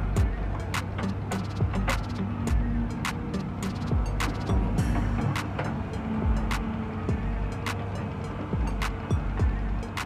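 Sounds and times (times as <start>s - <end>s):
music with drum beat: 0.0s - 7.9s, 8.5s - 10.0s.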